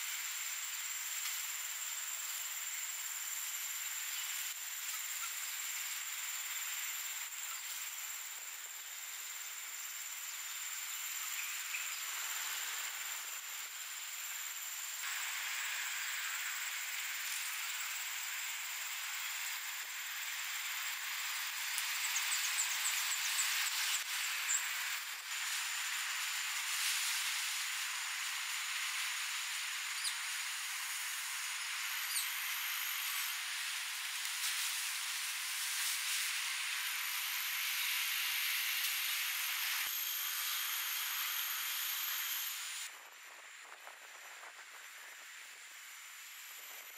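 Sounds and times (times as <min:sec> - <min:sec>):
insect chorus: 0:00.0 - 0:46.9.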